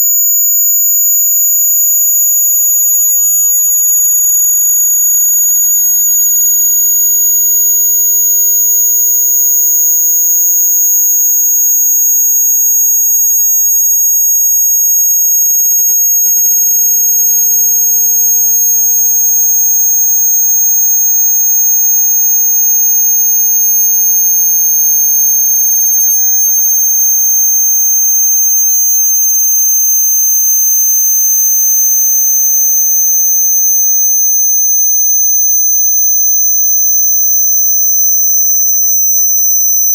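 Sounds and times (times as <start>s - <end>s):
high-pitched sine tone sweeping down: 0.0s - 39.9s.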